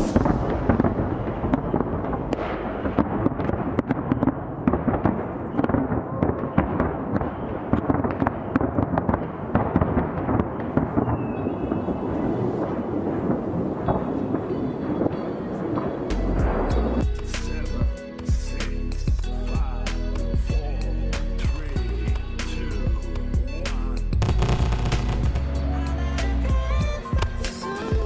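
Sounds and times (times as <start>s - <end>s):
fireworks cracks and crackles: 0.0s - 17.6s, 21.6s - 28.0s
fireworks booming: 0.0s - 18.4s, 21.4s - 28.0s.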